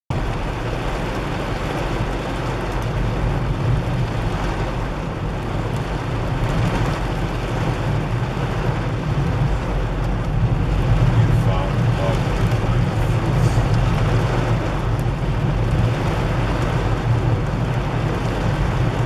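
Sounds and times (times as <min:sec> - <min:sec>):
heavy rain on car windscreen: 0:00.1 - 0:19.0
moving car rumble: 0:00.1 - 0:19.0.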